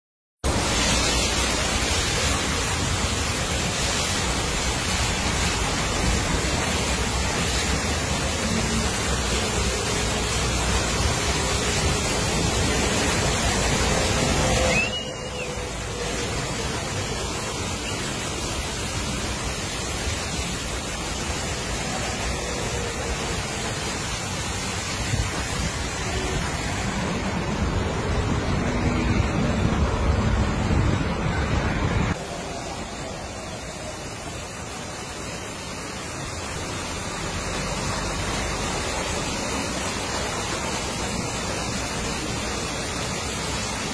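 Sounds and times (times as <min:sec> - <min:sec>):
high-pressure water spray hissing: 0:00.4 - 0:43.9.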